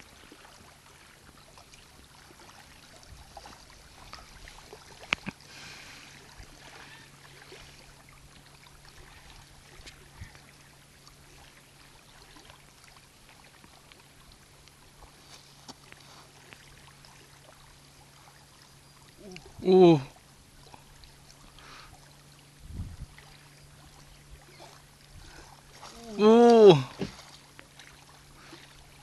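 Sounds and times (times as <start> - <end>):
low steady hum: 0.0 - 29.0
waves lapping against rocks: 0.0 - 29.0.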